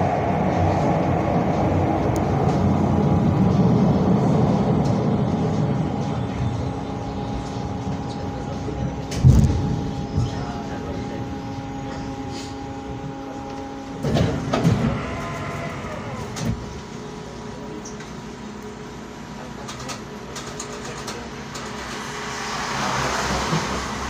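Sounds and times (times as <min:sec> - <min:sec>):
broad rush of noise: 0:00.0 - 0:19.8, 0:20.4 - 0:24.0
tram electrical hum: 0:00.0 - 0:24.0.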